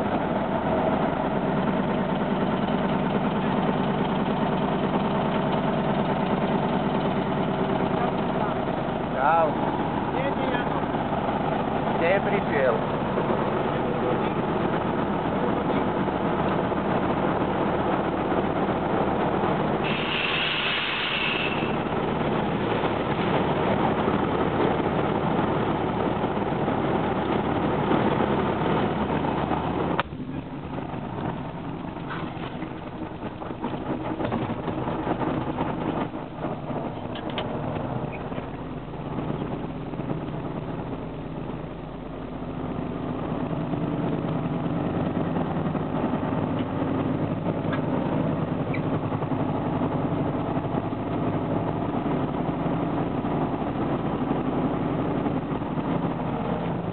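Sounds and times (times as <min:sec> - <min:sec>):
truck diesel engine running: 0:00.0 - 0:56.9.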